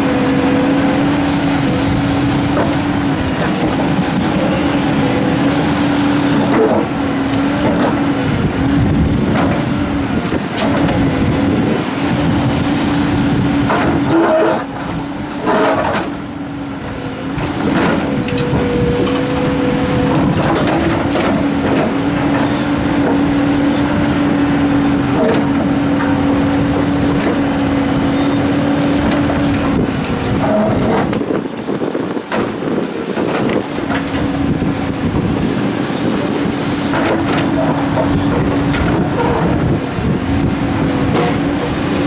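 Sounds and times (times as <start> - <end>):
excavator engine and hydraulics humming: 0.0 - 42.0.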